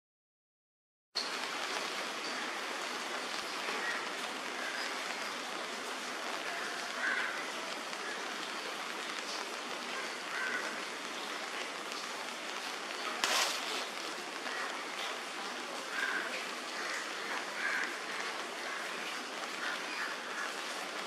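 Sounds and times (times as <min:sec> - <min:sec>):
hiss of rain or running water: 0:01.2 - 0:21.0.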